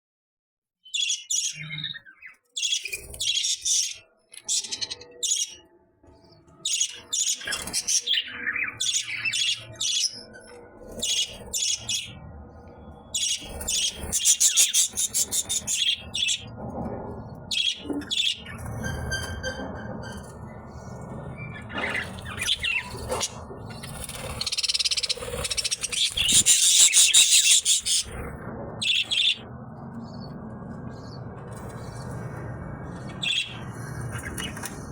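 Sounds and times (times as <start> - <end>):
bird chirping and squawking: 0.8 - 5.7, 6.6 - 12.2, 13.1 - 16.5, 17.5 - 30.3, 33.0 - 34.9.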